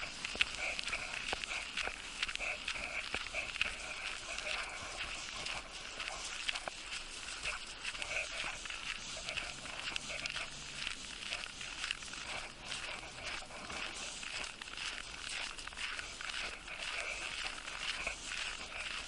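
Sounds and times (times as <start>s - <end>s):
footsteps crunching on snow: 0.0s - 19.0s.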